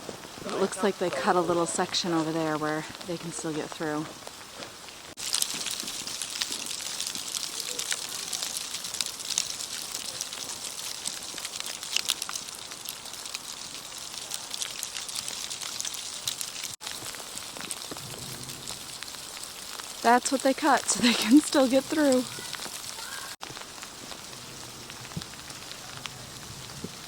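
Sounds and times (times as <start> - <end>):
sleet ticking on snow: 4.0 - 27.0.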